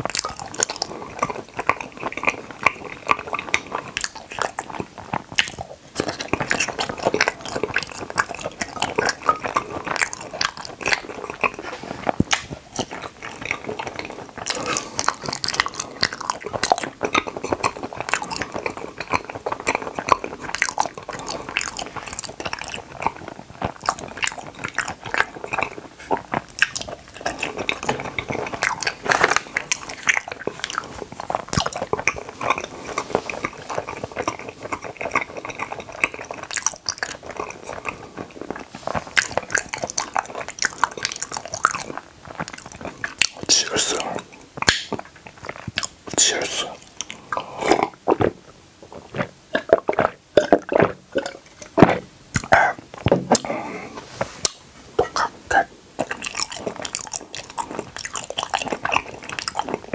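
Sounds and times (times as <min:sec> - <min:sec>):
chewing gummy candies: 0:00.0 - 0:59.9.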